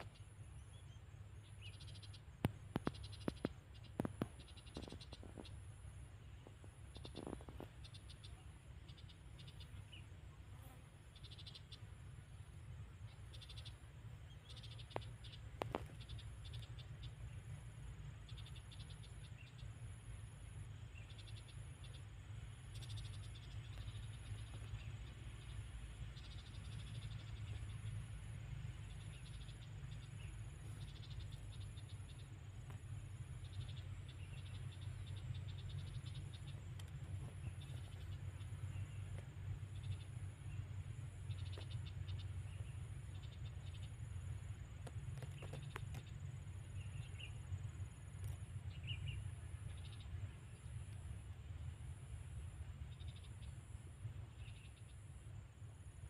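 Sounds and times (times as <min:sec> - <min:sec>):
insects calling: 0:00.0 - 0:56.0
steady low rumble: 0:00.0 - 0:56.0.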